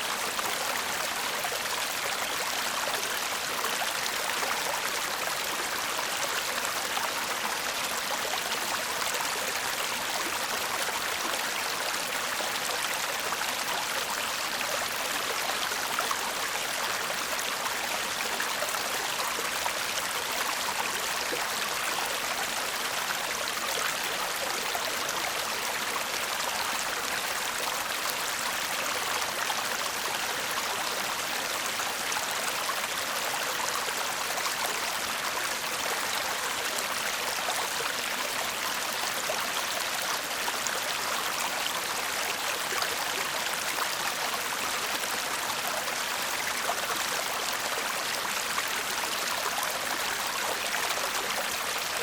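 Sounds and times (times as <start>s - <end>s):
stream babbling over stones: 0.0s - 52.0s.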